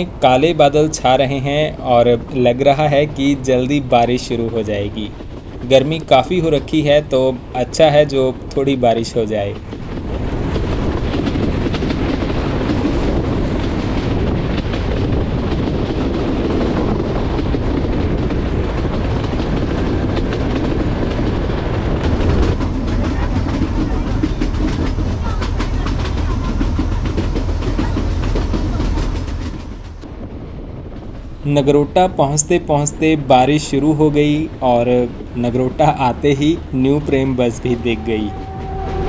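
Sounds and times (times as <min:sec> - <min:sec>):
train wheels rumbling on rails: 0:00.0 - 0:39.0
wheels clickety-clack over rail joints: 0:00.0 - 0:39.0.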